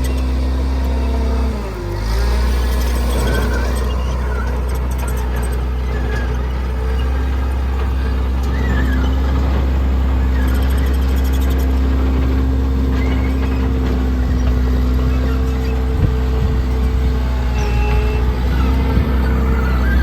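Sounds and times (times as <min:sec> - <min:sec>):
diesel engine droning: 0:00.0 - 0:20.0
faint high squeaks: 0:00.0 - 0:20.0.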